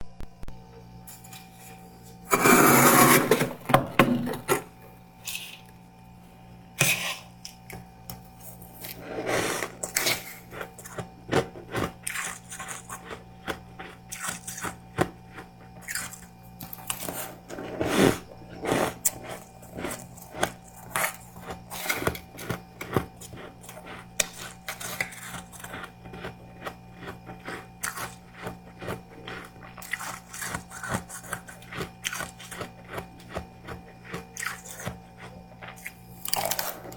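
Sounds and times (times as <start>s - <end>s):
frost crunching being chewed: 1.0s - 36.9s.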